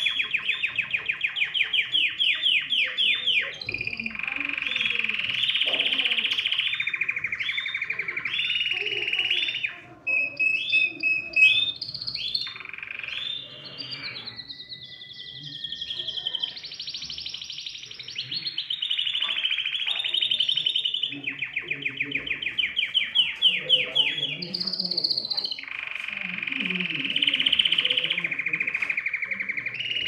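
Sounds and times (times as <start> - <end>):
canary singing: 0.0 - 30.0.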